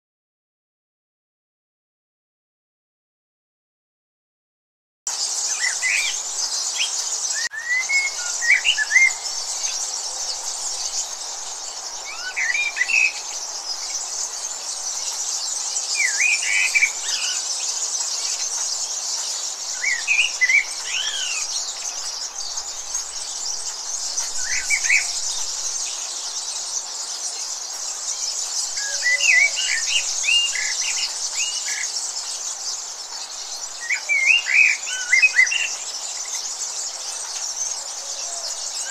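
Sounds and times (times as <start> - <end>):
bird chirping: 5.1 - 38.9
high-pitched insect hiss: 5.1 - 38.9.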